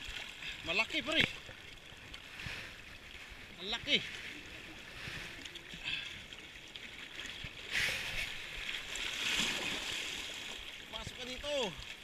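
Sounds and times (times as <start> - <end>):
waves sloshing over boulders: 0.0 - 12.0.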